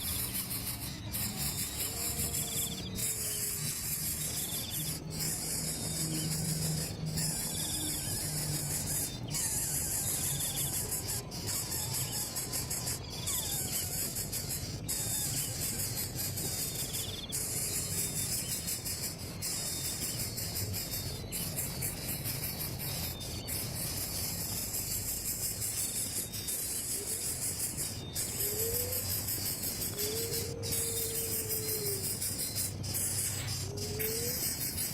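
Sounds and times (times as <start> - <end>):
insect chorus buzzing: 0.0 - 34.9.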